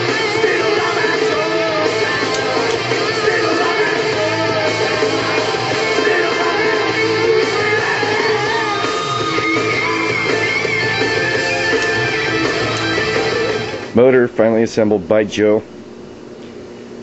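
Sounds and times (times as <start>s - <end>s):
rock music on radio: 0.0s - 14.1s.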